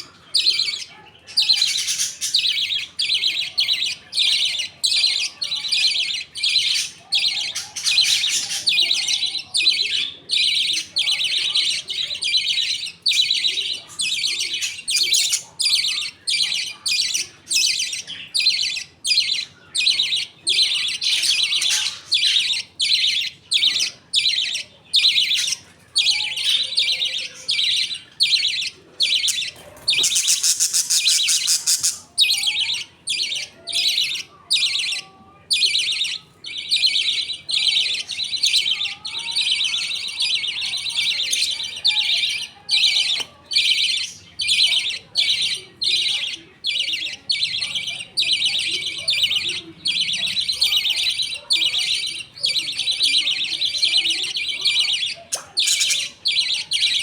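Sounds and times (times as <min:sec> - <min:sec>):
budgerigars chirping and chattering: 0:00.0 - 0:57.0.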